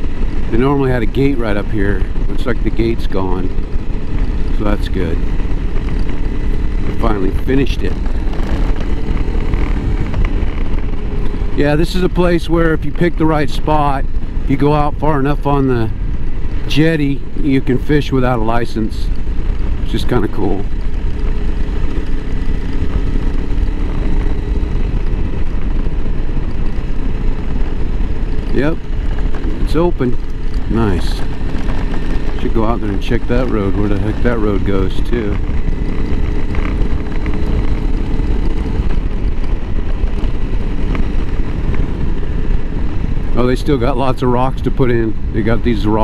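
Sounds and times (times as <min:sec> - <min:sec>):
motorcycle engine running: 0:00.0 - 0:46.0
wind rumble on microphone: 0:00.0 - 0:46.0.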